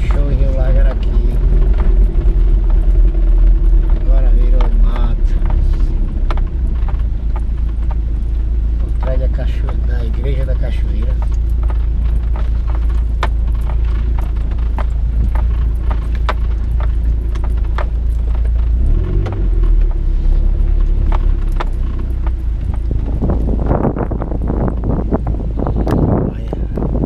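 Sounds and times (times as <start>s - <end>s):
light rattles and clicks: 0.0s - 27.0s
vehicle low rumble: 0.0s - 27.0s.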